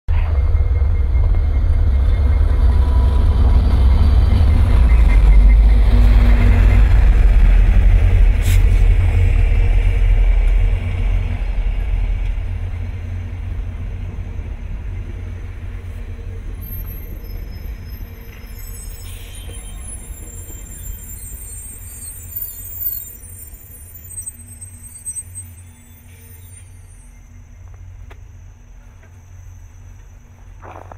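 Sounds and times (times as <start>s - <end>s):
passenger cars rolling by: 0.1s - 30.6s
diesel locomotive rumble: 0.1s - 30.9s.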